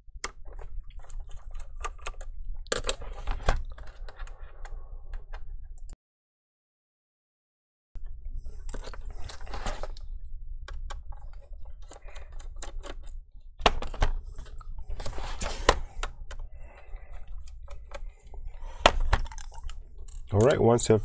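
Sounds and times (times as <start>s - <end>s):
steady low hum: 0.0s - 6.0s, 8.0s - 21.0s.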